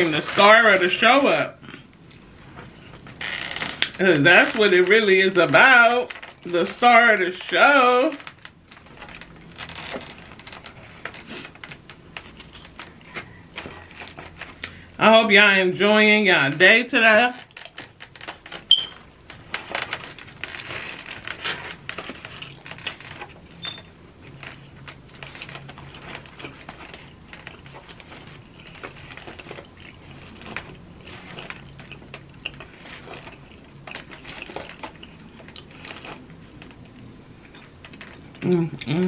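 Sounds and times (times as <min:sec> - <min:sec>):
aluminium foil crinkling: 0:00.0 - 0:15.0, 0:16.4 - 0:39.0.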